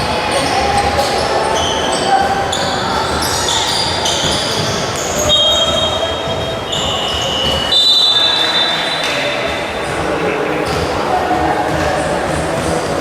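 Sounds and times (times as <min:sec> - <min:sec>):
crowd hubbub in large hall: 0:00.0 - 0:13.0
sneakers squeaking on court floor: 0:00.0 - 0:13.0.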